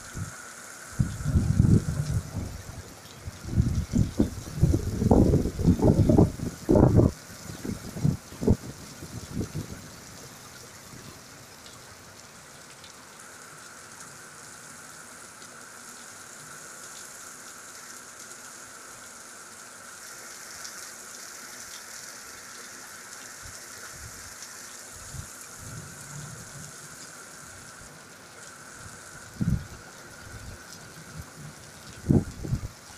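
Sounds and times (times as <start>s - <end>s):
heavy rain on paving: 0.0s - 32.9s.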